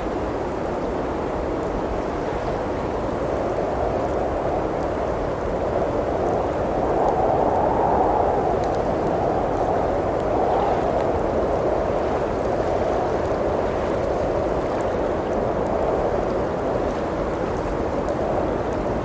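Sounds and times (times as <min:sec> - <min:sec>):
blizzard wind rushing: 0:00.0 - 0:19.0
wood fire crackling: 0:00.2 - 0:19.0.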